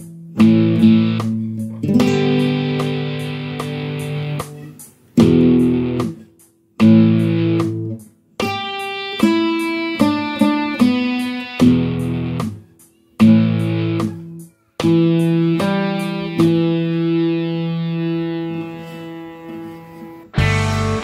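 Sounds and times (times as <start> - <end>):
drum backing track with hi-hat: 0.0 - 18.9, 20.2 - 21.0
electric guitar rock riff: 0.0 - 21.0.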